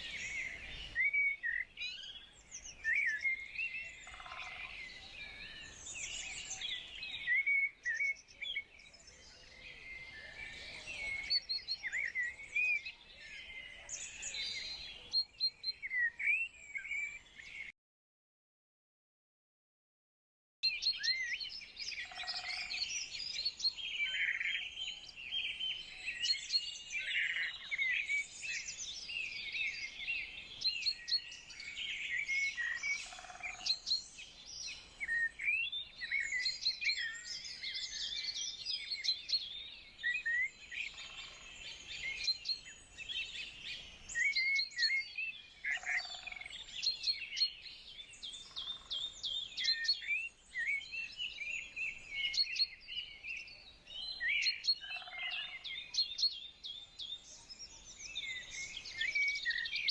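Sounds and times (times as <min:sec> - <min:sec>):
songbirds chirping and singing: 0:00.0 - 0:17.7, 0:20.6 - 0:59.9.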